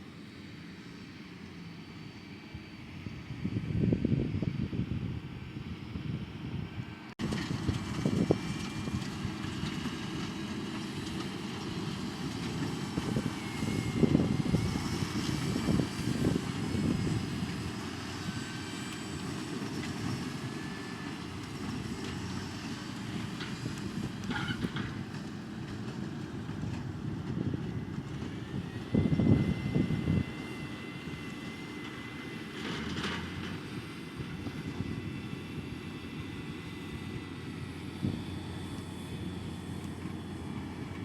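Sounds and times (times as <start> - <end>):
tractor engine drone: 0.0 - 41.0.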